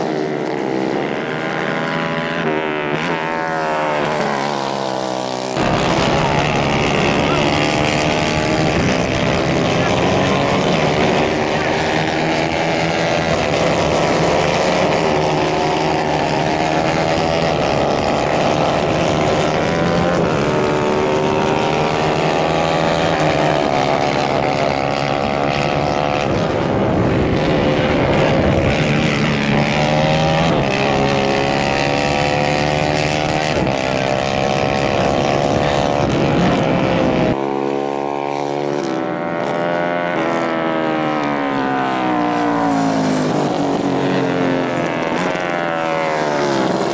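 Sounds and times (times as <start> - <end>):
kart engine accelerating: 0.0 - 46.9
racing kart engines buzzing: 0.0 - 46.9.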